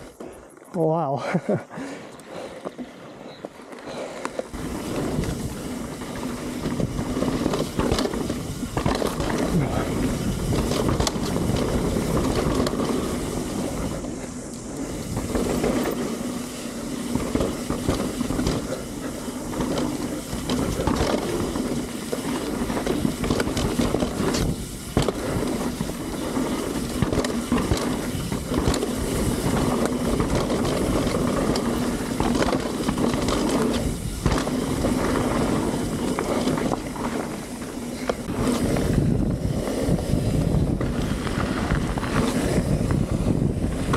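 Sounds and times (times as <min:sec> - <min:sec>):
bike tyres rolling on dirt: 0:00.0 - 0:43.9
bike rattling over bumps: 0:01.5 - 0:43.9.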